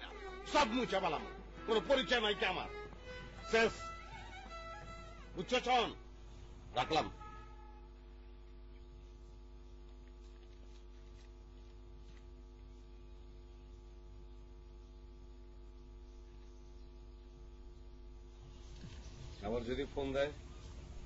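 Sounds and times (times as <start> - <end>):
faint electrical mains hum: 0.0 - 21.0.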